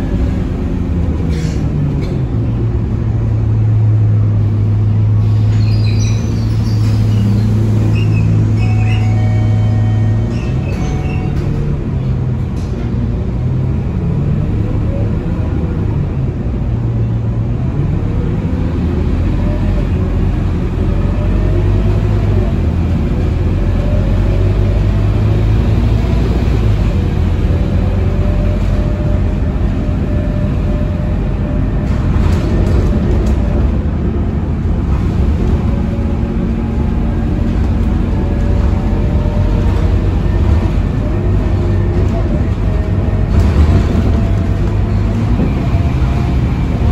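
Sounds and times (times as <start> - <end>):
bus diesel engine droning: 0.0 - 46.9
tyre and road noise: 0.0 - 46.9.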